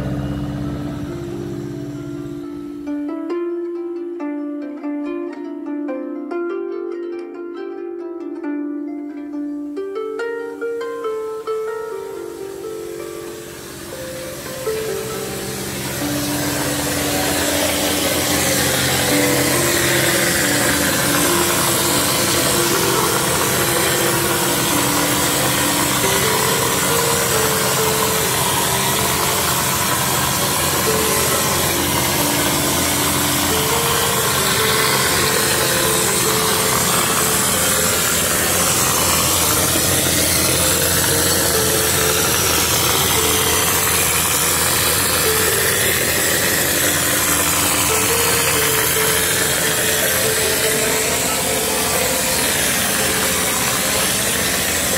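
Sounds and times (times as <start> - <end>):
motor drone: 0.0 - 3.0, 10.9 - 54.9
compressed air hissing: 10.8 - 54.9.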